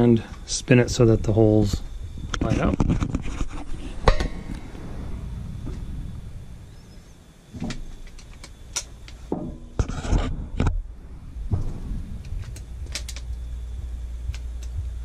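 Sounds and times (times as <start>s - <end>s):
low rubbing rumble: 0.0s - 15.0s.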